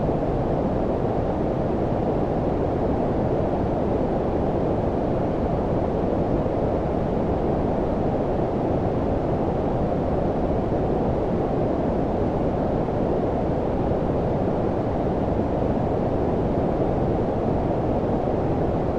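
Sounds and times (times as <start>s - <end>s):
low brown noise: 0.0s - 18.9s.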